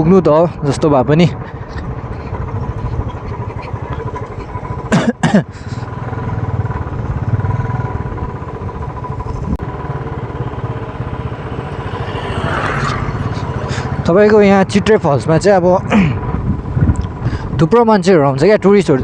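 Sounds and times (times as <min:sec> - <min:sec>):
motorcycle engine running: 0:00.0 - 0:17.7
road and wind noise: 0:00.0 - 0:19.0.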